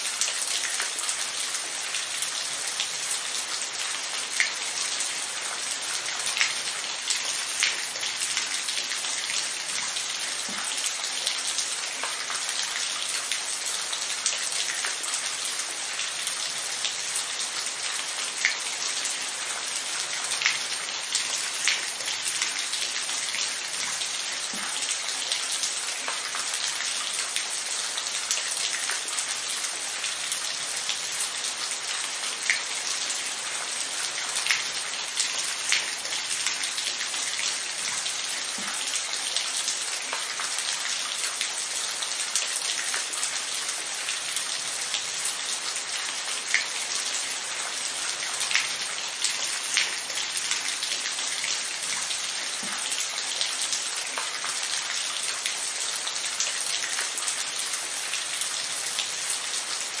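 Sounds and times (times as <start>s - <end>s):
steady rain on a surface: 0.0s - 60.0s.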